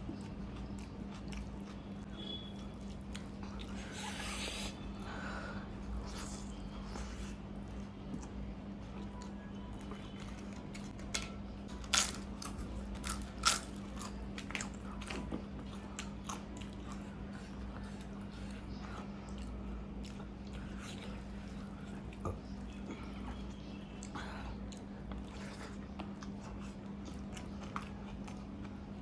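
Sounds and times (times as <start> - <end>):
chewing with crunching bites: 0.0 - 11.1, 11.7 - 29.0
steady low hum: 0.0 - 29.0.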